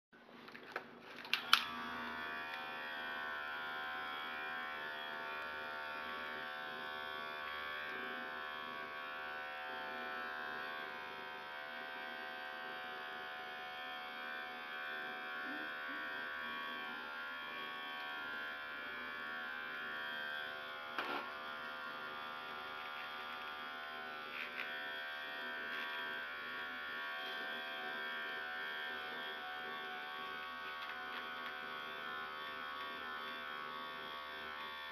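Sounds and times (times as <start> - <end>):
electric massager buzzing: 1.2 - 34.9.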